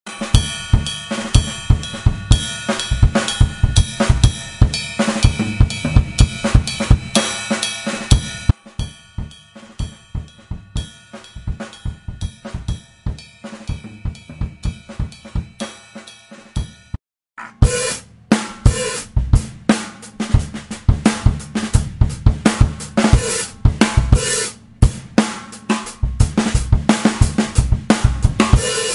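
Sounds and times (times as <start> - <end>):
drum kit playing a beat: 0.1 - 28.9.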